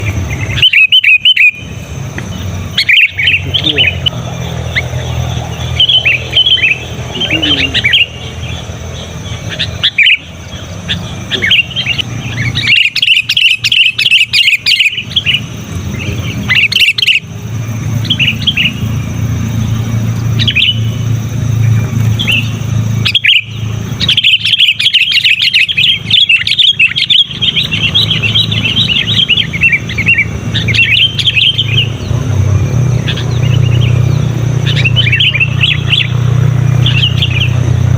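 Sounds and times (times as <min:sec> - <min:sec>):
bulbul singing chirpy notes: 0:00.0 - 0:37.9
steady low hum: 0:00.0 - 0:37.9.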